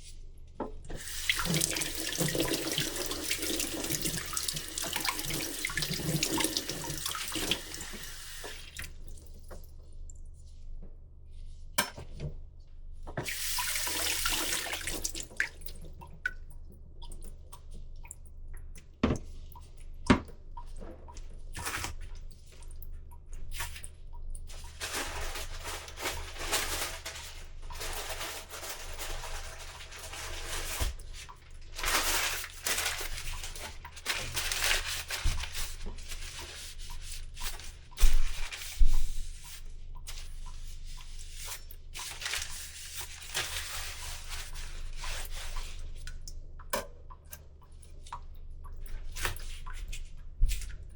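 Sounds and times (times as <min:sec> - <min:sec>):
water running from a tap: 0:00.9 - 0:09.7, 0:13.2 - 0:21.3, 0:21.9 - 0:50.0.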